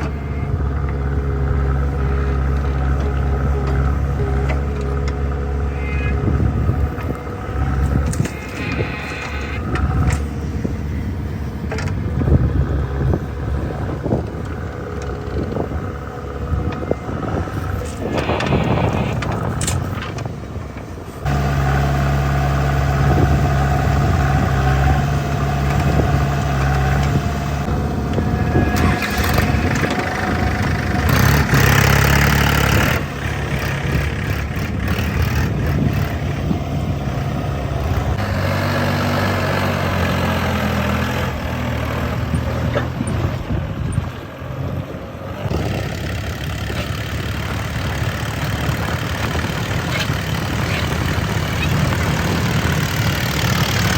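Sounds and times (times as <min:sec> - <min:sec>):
diesel machinery engines running: 0:00.0 - 0:53.9.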